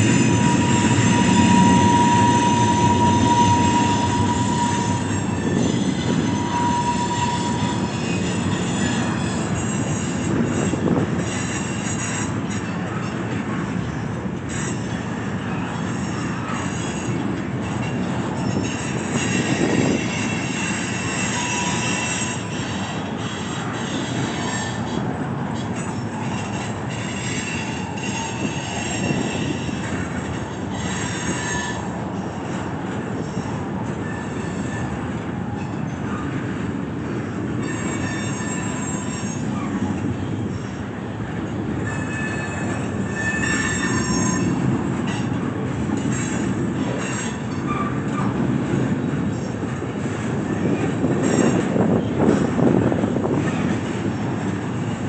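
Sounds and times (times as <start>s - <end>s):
high-pitched wheel squeal: 0.0s - 32.6s, 33.2s - 36.4s, 37.1s - 41.1s, 41.8s - 49.7s
train wheels rumbling on rail: 0.0s - 55.0s.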